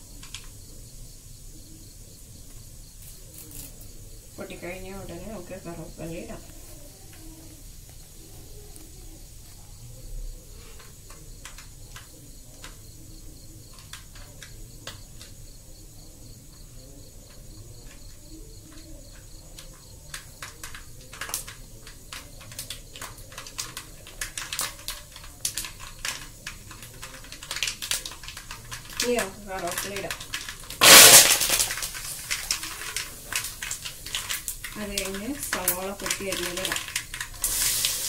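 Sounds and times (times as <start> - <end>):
seeds popping in hot oil: 0.0 - 38.0.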